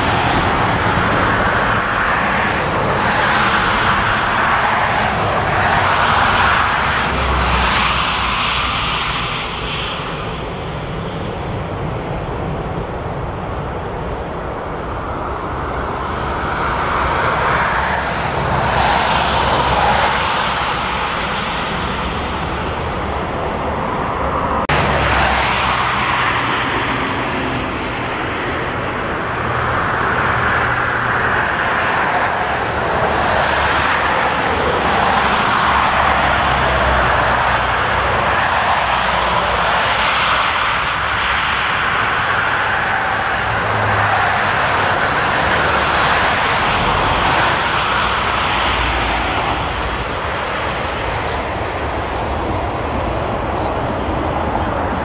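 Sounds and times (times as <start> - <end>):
airliner passing to land: 0.0 - 55.0
jet engines roaring: 0.0 - 55.0.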